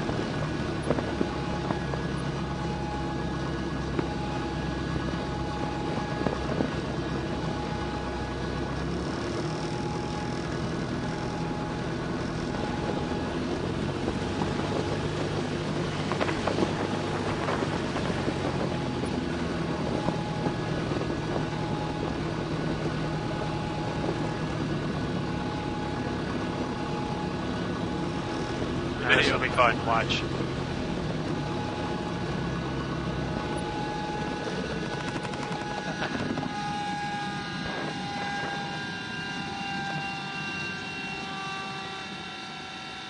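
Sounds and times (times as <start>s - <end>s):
propeller airplane engine droning: 0.0s - 43.0s.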